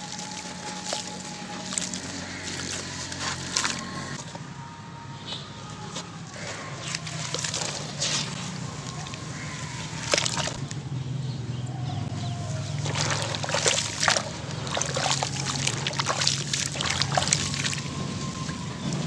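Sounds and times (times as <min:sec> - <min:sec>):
crisp crackles: 0:00.0 - 0:04.4, 0:05.3 - 0:10.7, 0:12.8 - 0:18.6
hands sloshing in water: 0:00.0 - 0:04.4, 0:05.9 - 0:10.6, 0:12.4 - 0:19.0
wet splashing and squelching: 0:00.0 - 0:04.4, 0:05.8 - 0:10.8, 0:12.2 - 0:19.0.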